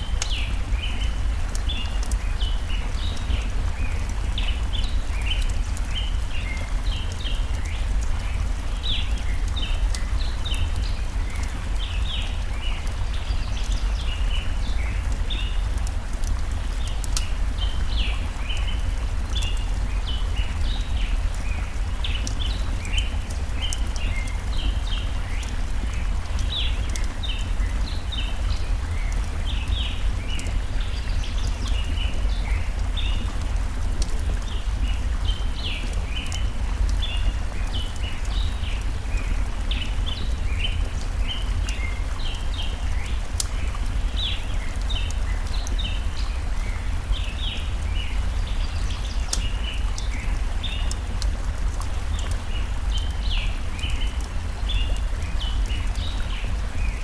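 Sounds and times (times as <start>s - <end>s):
campfire crackling: 0.0s - 57.0s
forest stream rushing: 0.0s - 57.0s.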